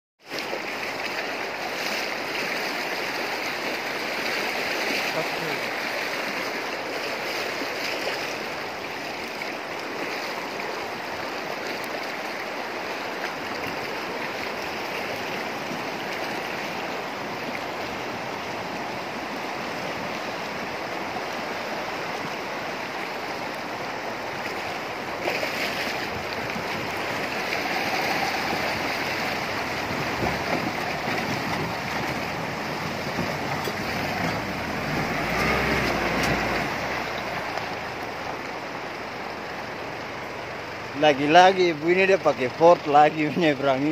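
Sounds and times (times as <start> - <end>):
river rushing over gravel: 0.2 - 43.9
truck wheels splashing through water: 0.2 - 43.9.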